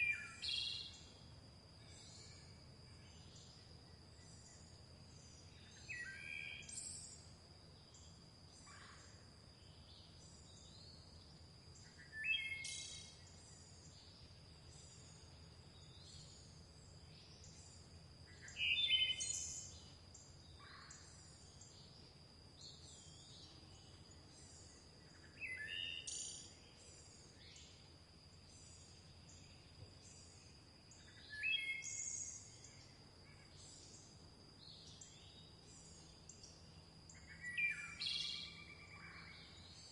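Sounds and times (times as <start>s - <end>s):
faint high bird chirps: 0.0s - 1.2s, 1.8s - 39.9s.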